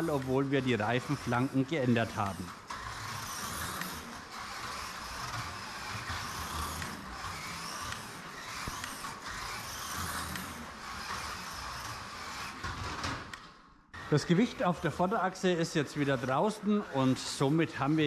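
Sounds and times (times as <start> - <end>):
slot car motor whirring: 0.0 - 18.0.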